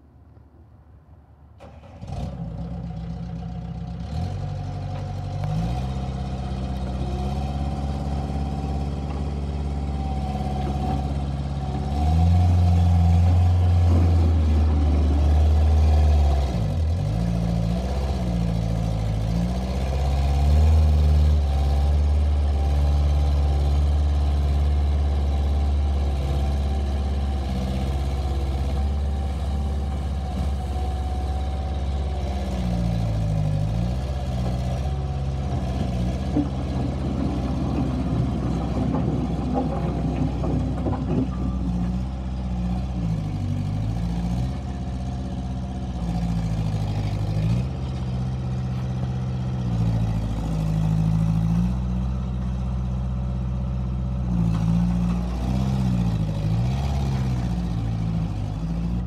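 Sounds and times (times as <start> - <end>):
diesel engine running under load: 1.6 - 59.0.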